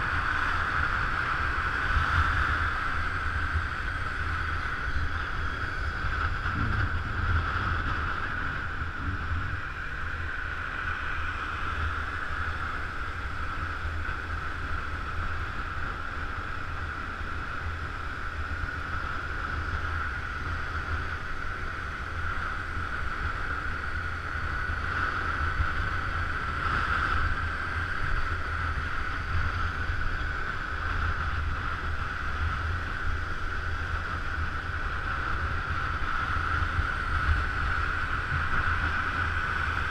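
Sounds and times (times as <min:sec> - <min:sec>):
scooter hum: 0:00.0 - 0:39.9
wind buffeting microphone: 0:00.0 - 0:39.9.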